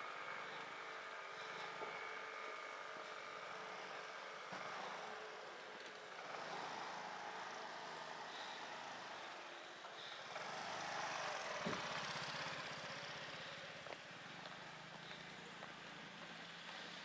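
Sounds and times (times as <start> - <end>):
car driving past slowly: 0.0 - 17.0.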